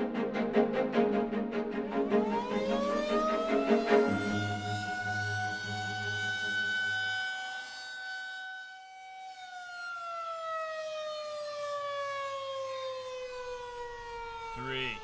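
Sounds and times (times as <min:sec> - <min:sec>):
air-raid siren wailing: 0:01.8 - 0:15.0.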